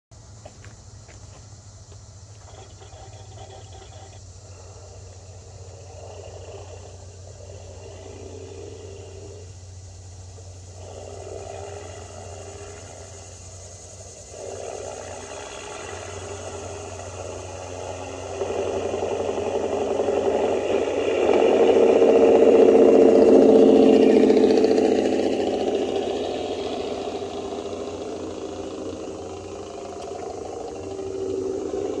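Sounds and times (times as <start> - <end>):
diesel truck engine: 0.1 - 32.0
engine brake chatter: 0.4 - 32.0.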